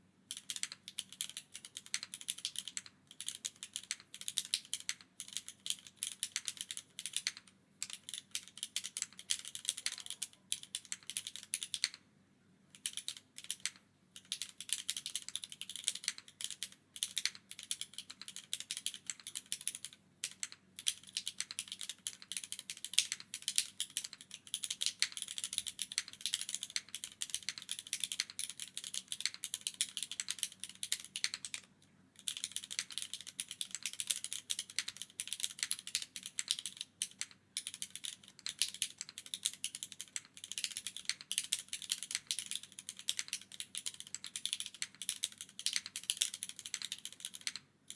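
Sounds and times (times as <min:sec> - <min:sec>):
fast mechanical keyboard typing: 0:00.3 - 0:12.0, 0:12.8 - 0:47.9.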